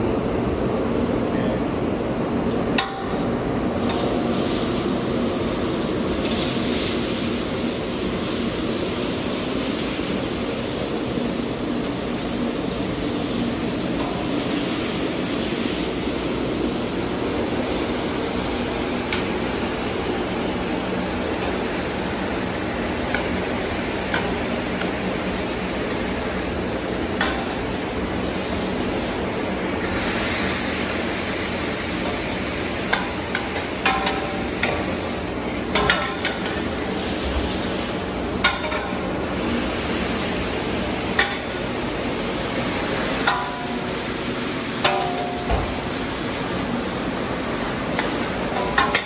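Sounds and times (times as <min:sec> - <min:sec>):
meat sizzling on a griddle: 0:03.7 - 0:49.0.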